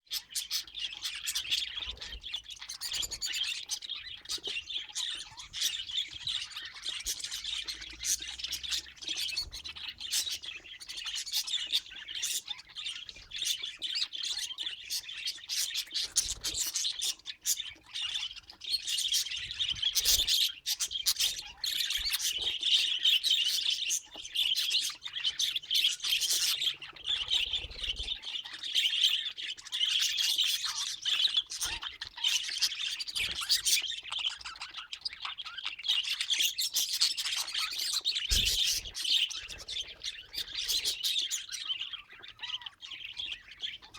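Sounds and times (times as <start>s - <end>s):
budgerigars chattering: 0.1s - 43.9s.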